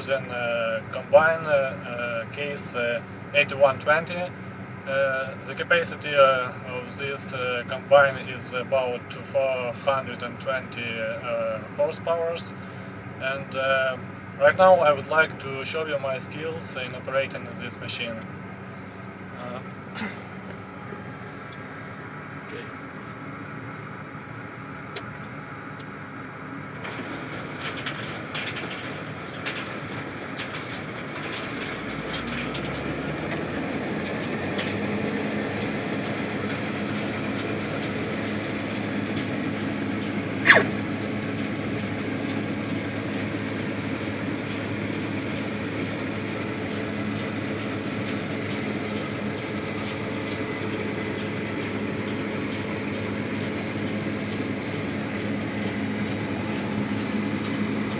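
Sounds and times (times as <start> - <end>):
combine harvester engine drone: 0.0 - 57.9.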